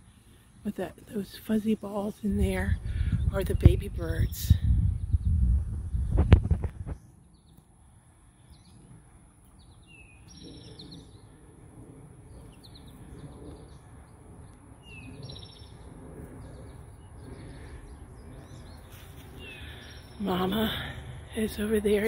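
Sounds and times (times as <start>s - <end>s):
small songbirds chirping: 0.0s - 6.2s, 6.8s - 22.0s
low outdoor rumble: 0.0s - 22.0s.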